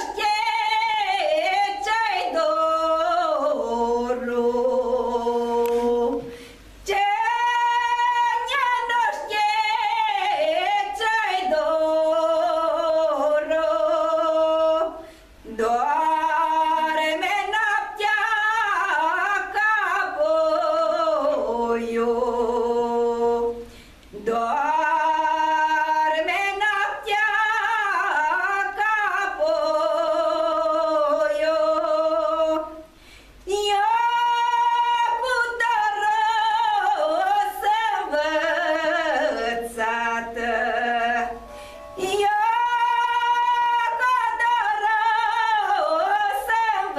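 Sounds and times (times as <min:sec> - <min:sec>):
woman singing unaccompanied: 0:00.0 - 0:46.9.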